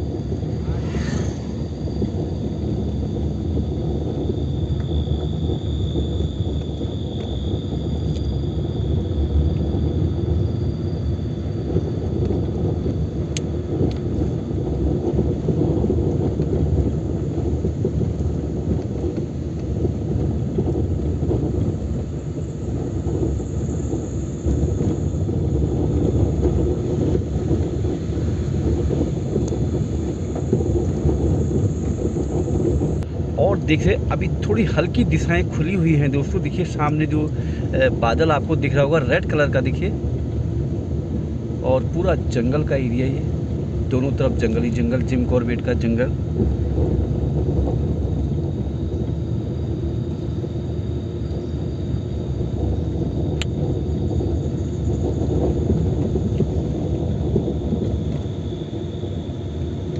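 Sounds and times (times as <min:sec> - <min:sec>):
crickets trilling: 0:00.0 - 0:59.9
steady low rumble: 0:00.0 - 0:59.9.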